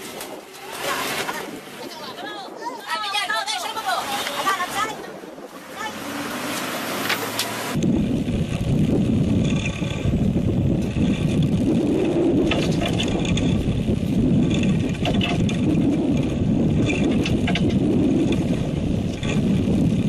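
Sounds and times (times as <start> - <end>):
water: 0.0 - 7.8, 10.8 - 19.4
boat engine rumble: 0.0 - 20.0
wind: 0.0 - 20.0.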